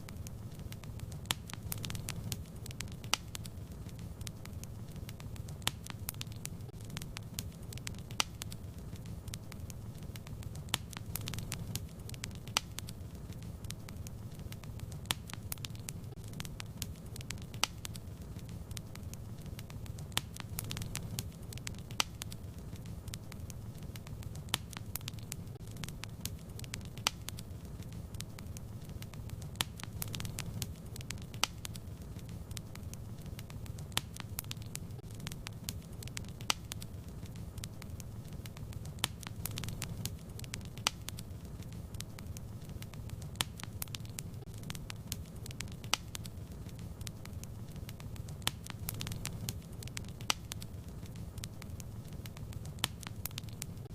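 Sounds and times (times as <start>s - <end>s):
fire pops and snaps: 0.0s - 53.9s
wood fire crackling: 0.0s - 53.9s.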